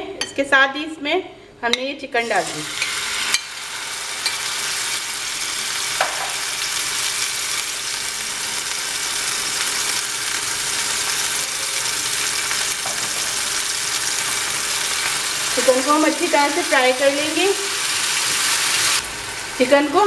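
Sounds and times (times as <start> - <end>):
chicken sizzling in oil: 2.5 - 20.0.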